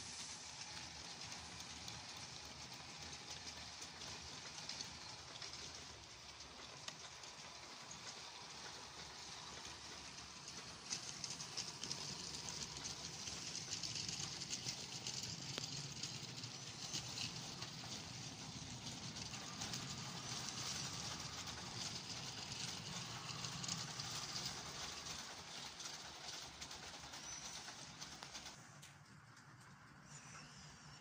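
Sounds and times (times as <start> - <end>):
model train motors whirring: 0.0 - 31.0
wheels clicking over rail joints: 0.2 - 31.0.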